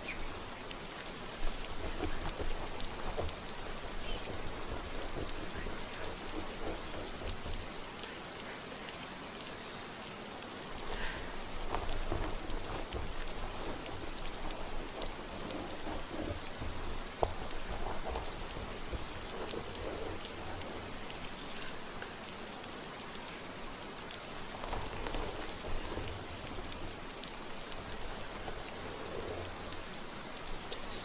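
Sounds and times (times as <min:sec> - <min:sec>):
hair rustling: 0:00.0 - 0:31.0
steady rain: 0:00.0 - 0:31.0.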